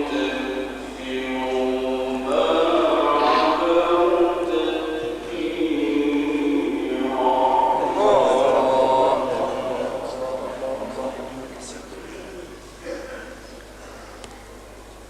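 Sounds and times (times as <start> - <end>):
man reciting melodically: 0.0 - 13.3.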